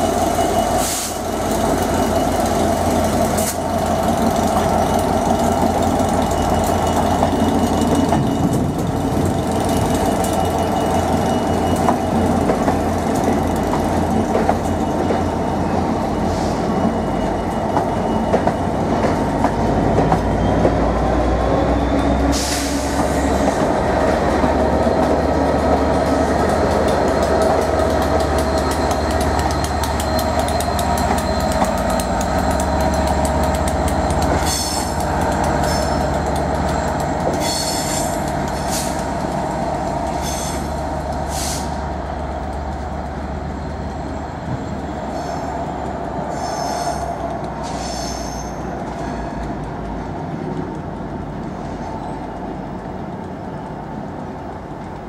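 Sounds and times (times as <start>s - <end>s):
locomotive engine drone: 0.0s - 55.0s
train wheels clacking on rails: 0.0s - 55.0s.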